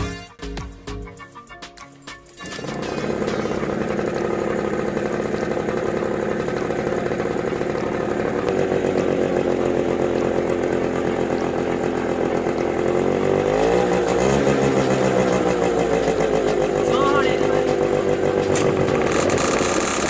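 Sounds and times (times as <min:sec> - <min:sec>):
scooter engine idling and revving: 0:02.2 - 0:20.0.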